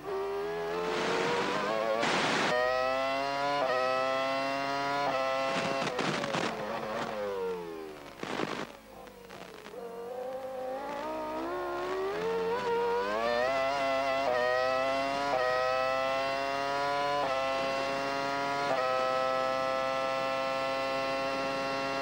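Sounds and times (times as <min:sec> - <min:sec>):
racing car engine revving: 0:00.0 - 0:07.6, 0:10.0 - 0:22.0
quick gear upshifts: 0:00.0 - 0:22.0.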